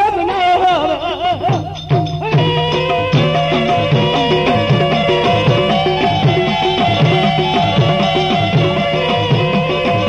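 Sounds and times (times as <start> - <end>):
held melody notes: 0.0 - 10.0.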